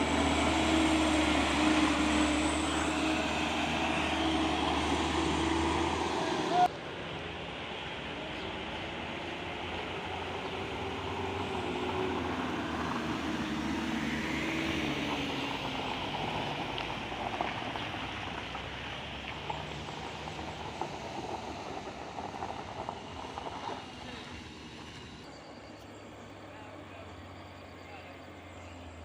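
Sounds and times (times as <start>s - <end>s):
truck diesel engine under load: 0.0s - 29.0s.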